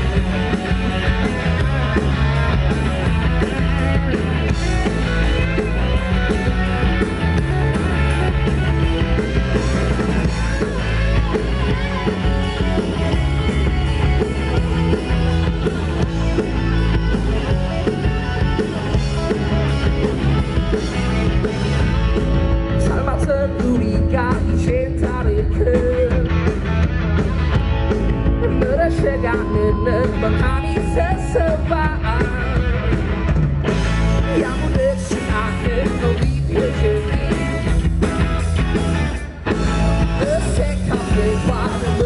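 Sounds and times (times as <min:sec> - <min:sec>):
bass guitar: 0:00.0 - 0:42.0
drum kit: 0:00.0 - 0:42.0
electric guitar: 0:00.0 - 0:42.0.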